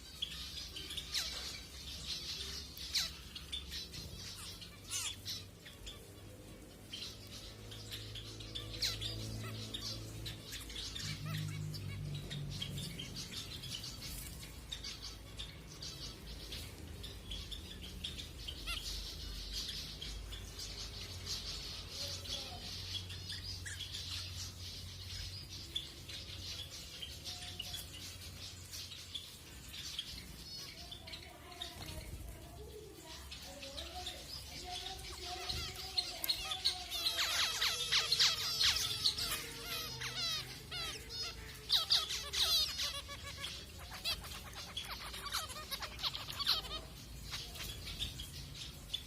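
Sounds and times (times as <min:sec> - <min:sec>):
finches chirping and calling: 0:00.0 - 0:49.0.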